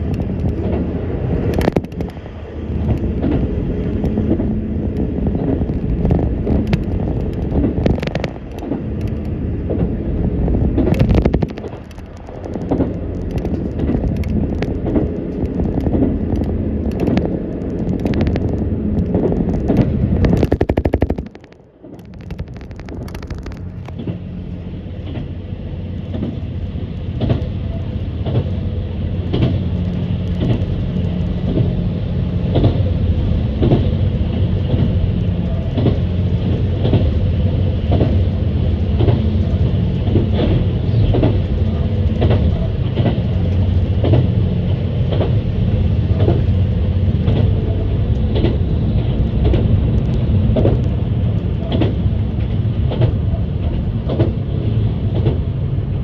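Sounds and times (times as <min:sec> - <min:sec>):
low engine drone: 0:00.0 - 0:56.0
train wheels clicking over rail joints: 0:00.0 - 0:56.0.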